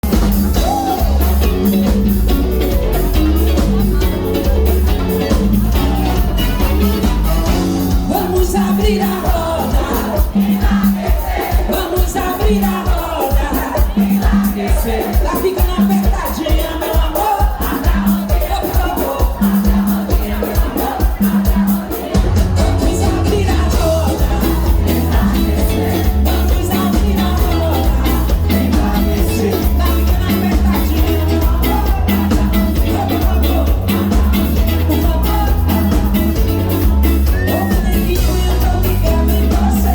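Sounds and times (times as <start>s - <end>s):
band playing upbeat music: 0.0s - 39.9s
person singing: 0.0s - 39.9s.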